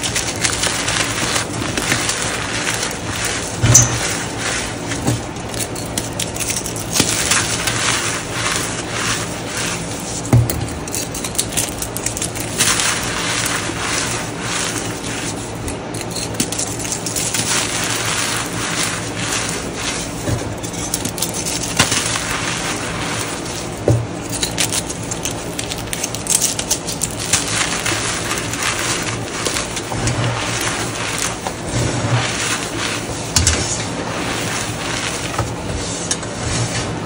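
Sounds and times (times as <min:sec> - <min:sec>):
hands crushing chalk: 0:00.0 - 0:36.3.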